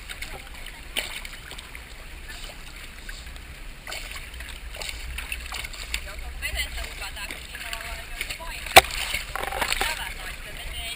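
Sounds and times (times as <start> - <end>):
water lapping and splashing: 0.0 - 10.9.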